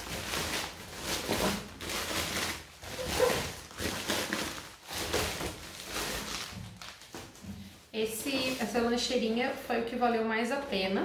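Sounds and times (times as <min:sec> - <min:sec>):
plastic bag rustling and crinkling: 0:00.0 - 0:09.7.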